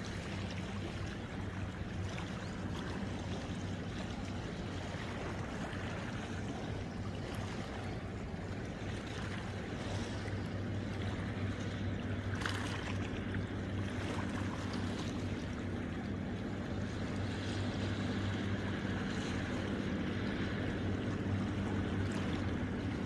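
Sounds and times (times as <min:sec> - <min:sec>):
low motor hum: 0:00.0 - 0:23.0
waves lapping against rocks: 0:00.0 - 0:23.0.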